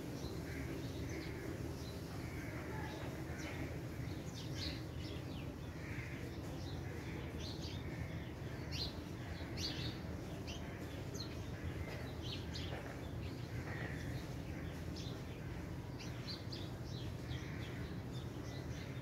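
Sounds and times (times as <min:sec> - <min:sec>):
low background noise: 0:00.0 - 0:19.0
small birds chirping: 0:00.0 - 0:19.0.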